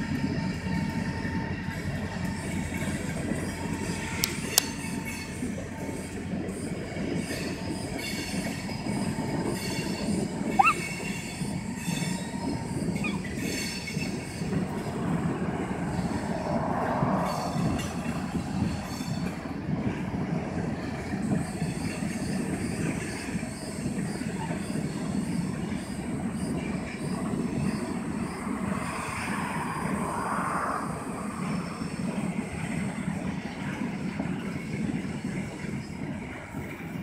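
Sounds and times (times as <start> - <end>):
freight train wheels clattering: 0.0 - 29.7
high wheel squeal: 0.0 - 36.0.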